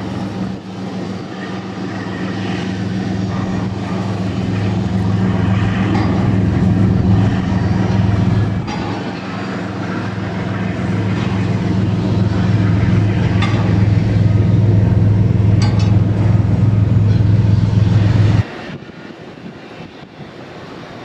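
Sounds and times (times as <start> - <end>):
water rushing: 0.0 - 18.4
boat engines droning: 0.0 - 18.8.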